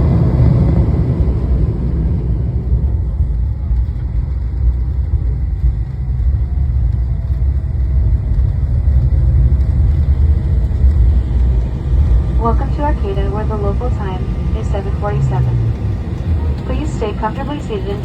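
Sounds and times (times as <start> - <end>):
airliner cabin engine and wheel roar: 0.0 - 18.0.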